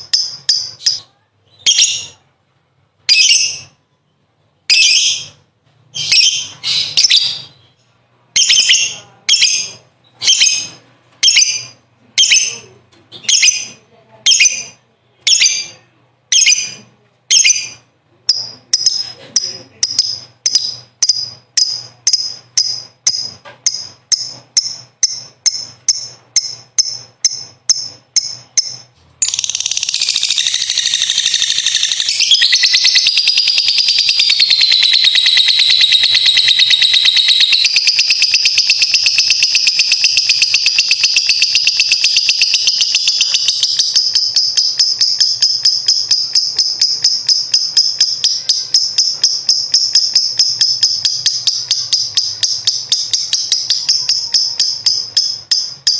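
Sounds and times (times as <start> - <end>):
bird chirping and trilling: 0.0 - 2.2, 3.0 - 3.8, 4.7 - 55.9.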